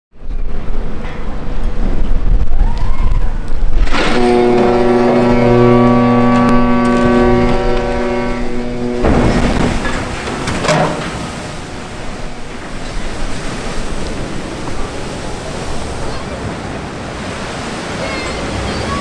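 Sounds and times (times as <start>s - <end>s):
wind on microphone: 0.2s - 16.2s
wave rushing over quay: 0.4s - 19.0s
ship hull splashing into water: 3.6s - 19.0s.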